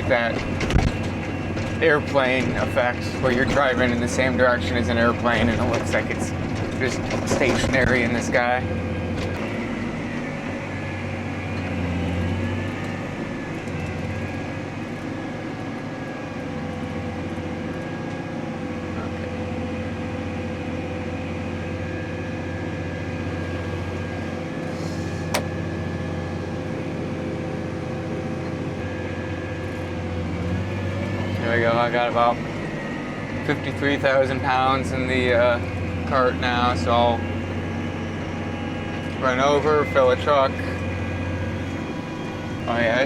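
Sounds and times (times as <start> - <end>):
tractor engine drone from cab: 0.0 - 43.0.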